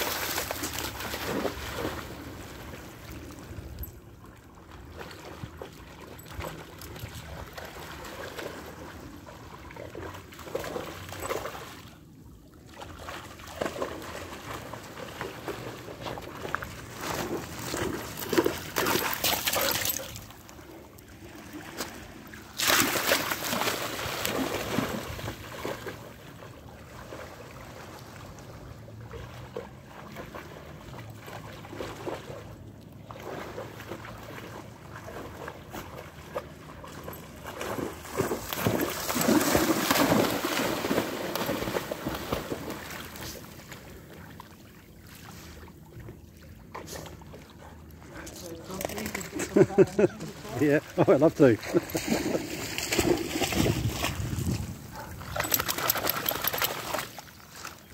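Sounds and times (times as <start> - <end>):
water splashing as a dog swims: 0.0 - 49.5, 50.2 - 57.9.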